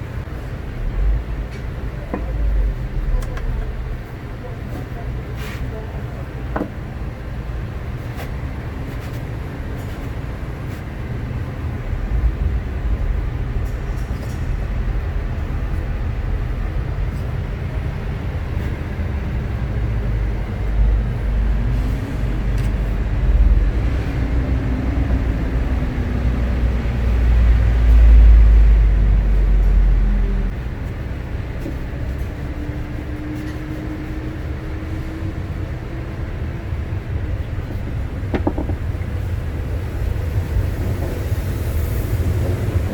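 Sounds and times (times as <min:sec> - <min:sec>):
faint engine drone: 0:00.0 - 0:42.9
low rumble of passing vehicles: 0:00.0 - 0:42.9.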